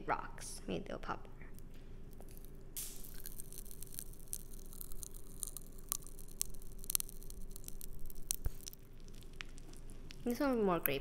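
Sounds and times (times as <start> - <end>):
popping candy crackling: 1.4 - 11.0.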